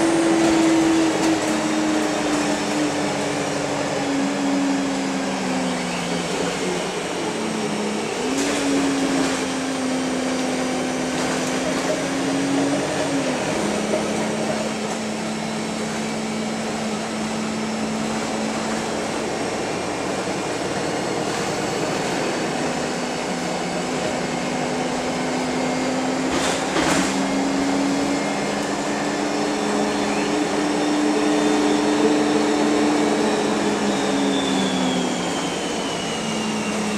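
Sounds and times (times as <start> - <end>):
bus engine and road drone: 0.0 - 36.9.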